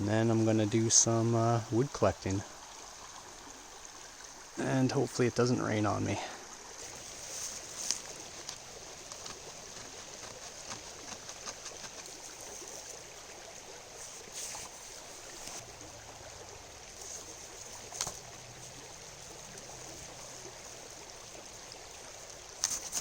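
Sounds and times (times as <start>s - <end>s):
river flowing: 0.0s - 23.0s.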